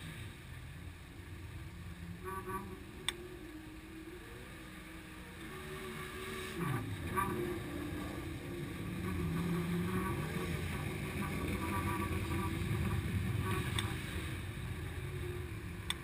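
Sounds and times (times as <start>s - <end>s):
racing car engines rumbling: 0.0s - 16.0s.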